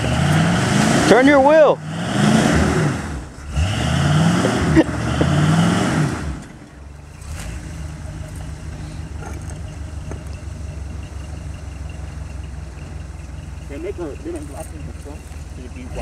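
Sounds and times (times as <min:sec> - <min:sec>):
vehicle engine revving and idling: 0:00.0 - 0:16.0.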